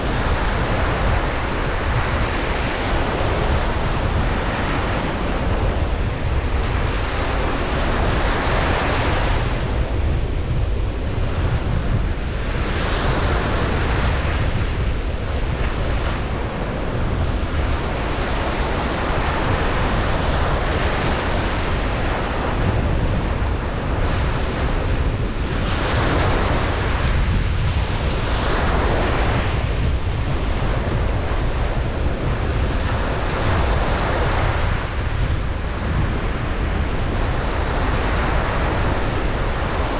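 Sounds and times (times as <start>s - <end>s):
low surf rumble: 0.0s - 39.9s
ocean waves breaking on beach: 0.0s - 39.9s.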